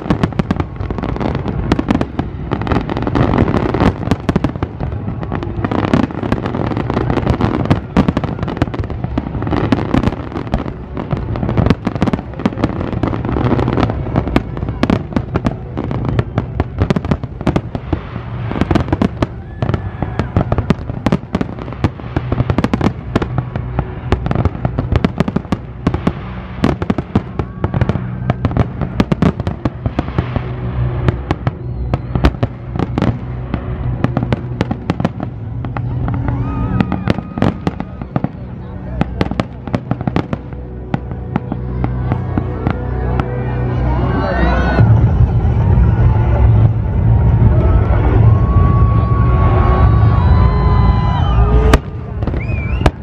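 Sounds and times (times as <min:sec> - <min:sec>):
fireworks bangs: 0:00.0 - 0:43.6, 0:44.8 - 0:53.0.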